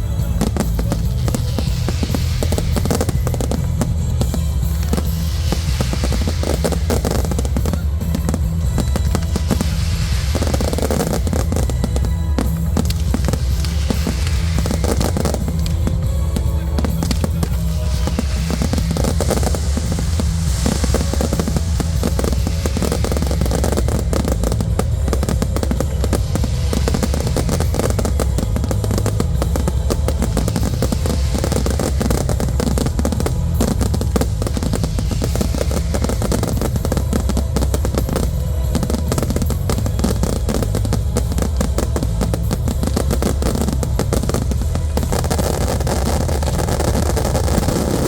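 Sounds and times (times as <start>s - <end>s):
fireworks bangs and crackling: 0.0s - 48.0s
low rumble: 0.0s - 48.0s.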